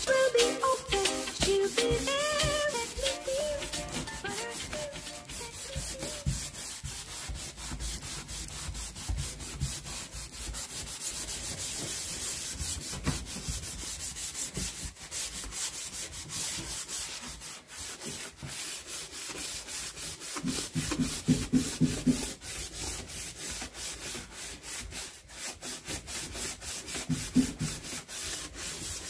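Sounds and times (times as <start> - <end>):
scouring pad scrubbing metal: 0.0 - 29.0.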